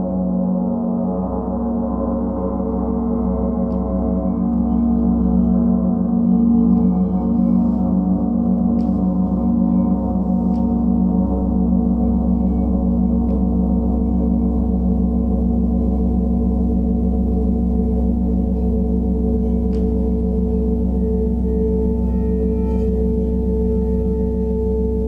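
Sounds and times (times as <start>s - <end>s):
gong shimmering: 0.0s - 25.0s.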